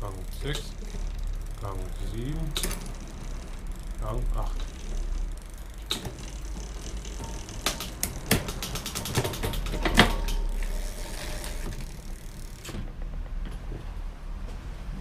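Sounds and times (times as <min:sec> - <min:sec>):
bicycle chain clicking over sprockets: 0:00.0 - 0:12.8.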